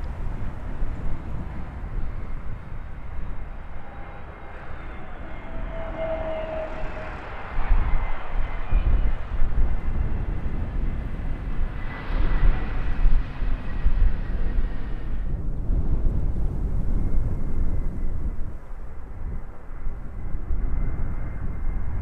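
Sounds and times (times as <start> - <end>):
airliner engines passing: 0.0 - 22.0.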